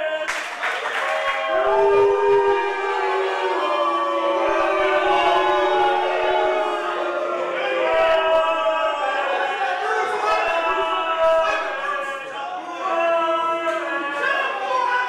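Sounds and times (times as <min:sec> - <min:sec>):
voices singing held notes: 0:01.4 - 0:15.0.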